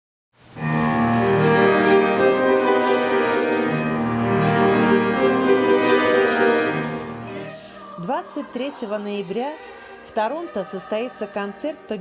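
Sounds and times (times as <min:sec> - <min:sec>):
slow classical instrumental music: 0:00.4 - 0:12.0.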